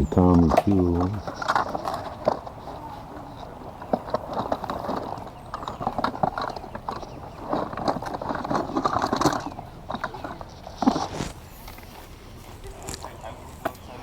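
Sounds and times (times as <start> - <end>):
faint voices: 0.0 - 7.3, 8.6 - 14.0.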